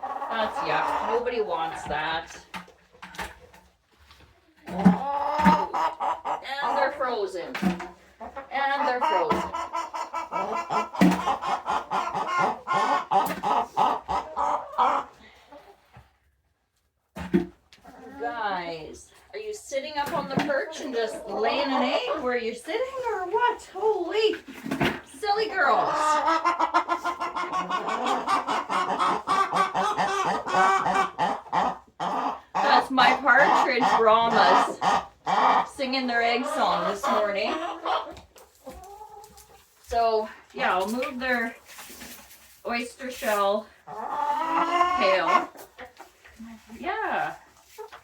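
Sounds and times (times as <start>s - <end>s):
hens clucking and cackling: 0.0s - 16.2s, 17.2s - 48.0s.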